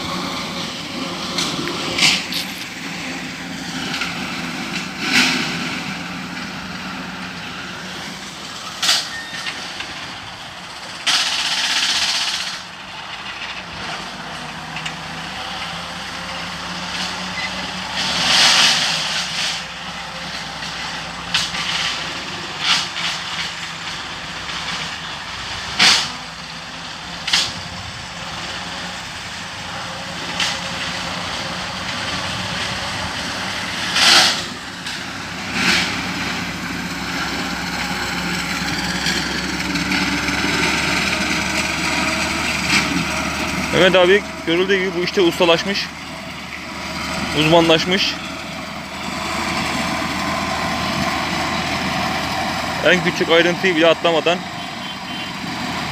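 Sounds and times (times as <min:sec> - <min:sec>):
hay mower engine running: 0:00.0 - 0:55.9.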